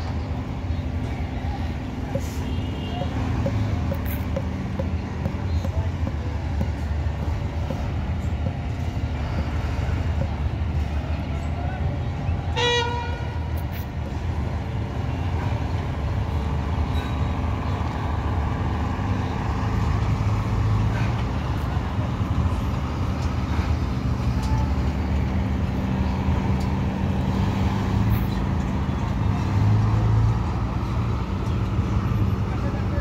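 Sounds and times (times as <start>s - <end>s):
bus engines rumbling: 0.0s - 33.0s.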